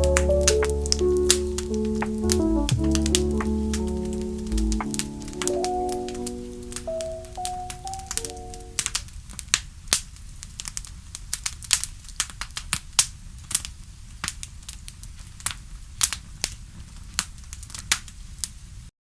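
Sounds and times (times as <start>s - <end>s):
wood fire crackling and popping: 0.0s - 18.6s.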